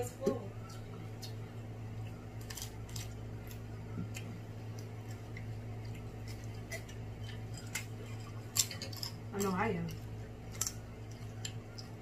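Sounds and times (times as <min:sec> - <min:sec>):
low hum: 0:00.0 - 0:12.0
crab shells cracking: 0:02.2 - 0:12.0.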